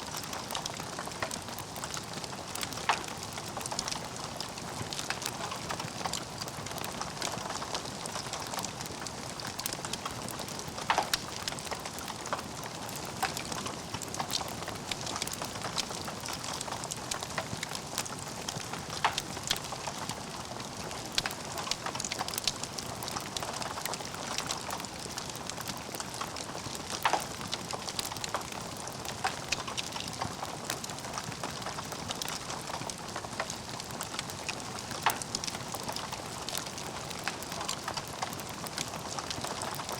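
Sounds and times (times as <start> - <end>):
logs crackling in fireplace: 0.1 - 39.9.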